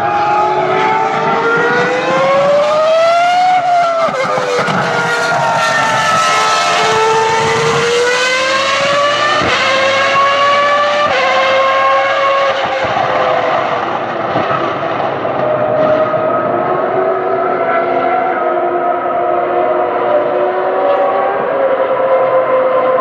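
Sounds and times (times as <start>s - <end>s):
racing car engine at high revs: 0.0s - 23.0s.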